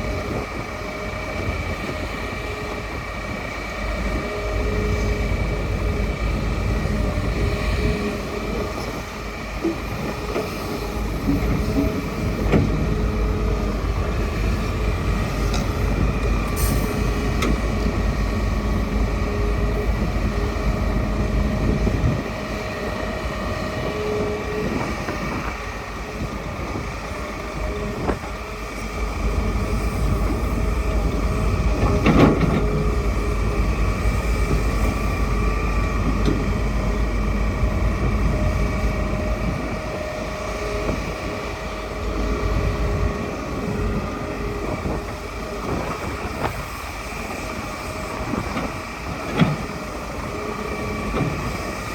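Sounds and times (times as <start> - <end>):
excavator engine and hydraulics: 0.0 - 51.9.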